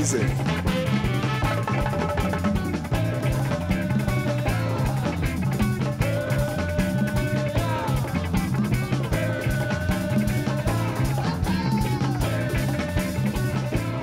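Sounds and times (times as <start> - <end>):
background music with drum beat: 0.0 - 14.0.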